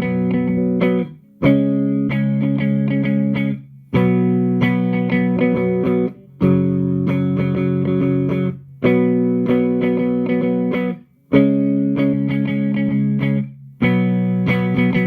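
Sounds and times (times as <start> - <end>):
electric guitar chords ringing: 0.0 - 15.0.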